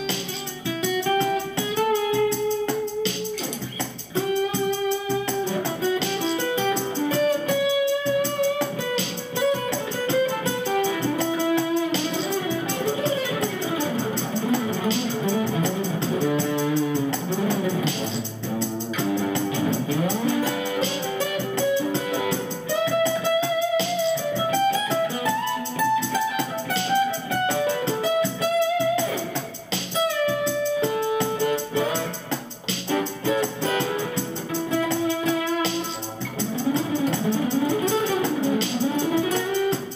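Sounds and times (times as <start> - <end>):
guitar picking a melody: 0.0 - 39.9.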